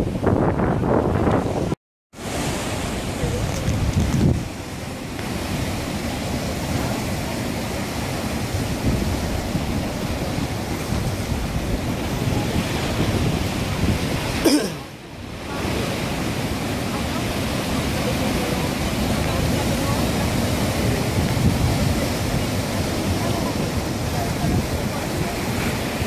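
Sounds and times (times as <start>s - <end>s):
surf washing between rocks: 0.0s - 26.0s.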